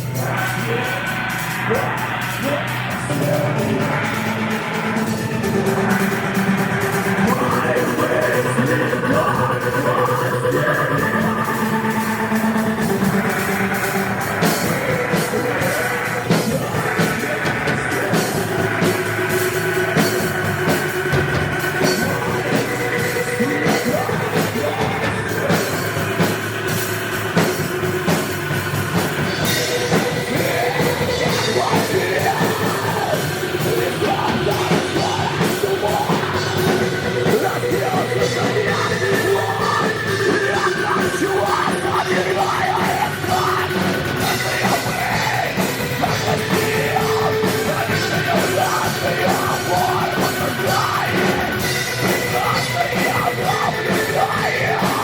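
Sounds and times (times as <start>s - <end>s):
drum kit: 0.0s - 55.0s
noise rock band: 0.0s - 55.0s.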